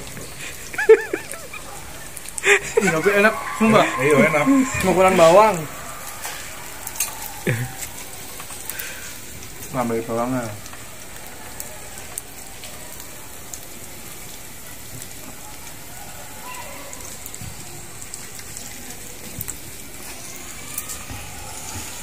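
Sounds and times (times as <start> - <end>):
meat sizzling on grill pan: 0.0 - 22.0.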